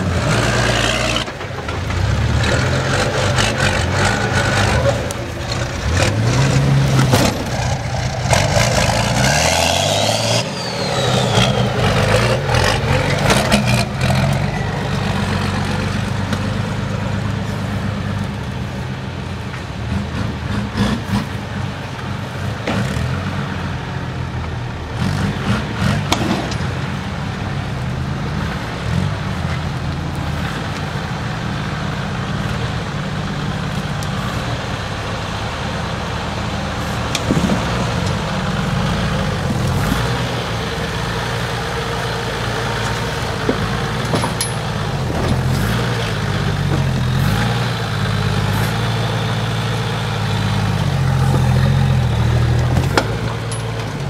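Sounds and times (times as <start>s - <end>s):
engine revving at low revs: 0.0s - 18.9s, 19.8s - 54.0s.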